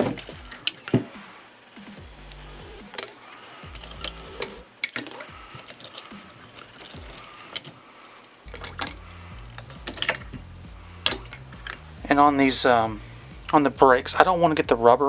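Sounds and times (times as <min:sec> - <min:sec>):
metal bolts clinking: 0:00.0 - 0:13.7.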